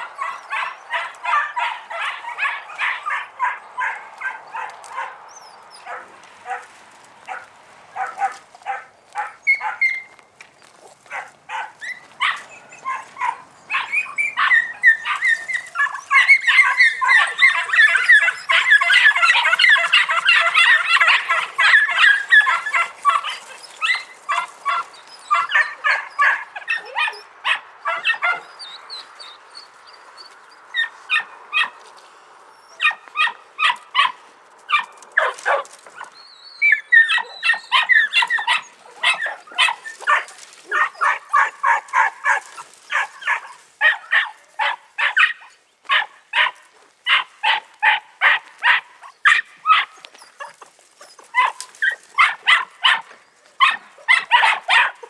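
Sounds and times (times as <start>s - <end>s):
puppies yapping: 0.0s - 31.8s, 32.5s - 55.0s.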